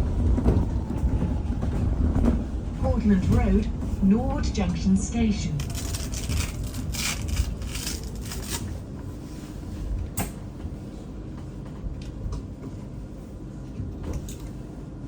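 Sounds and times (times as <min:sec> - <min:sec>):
bus interior rumble: 0:00.0 - 0:15.0.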